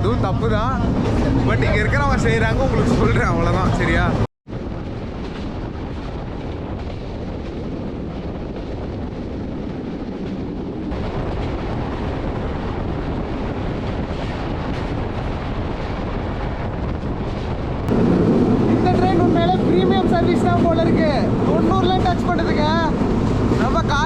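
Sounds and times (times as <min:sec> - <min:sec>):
train wheels on rough track: 0:00.0 - 0:24.0.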